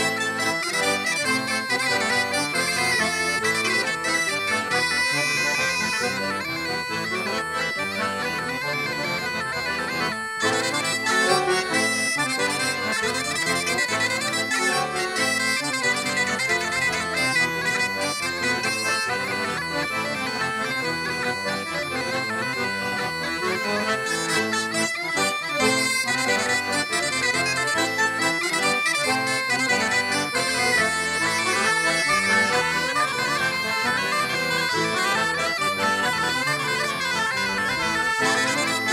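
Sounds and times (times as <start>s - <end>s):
folk dance music: 0.0s - 38.9s.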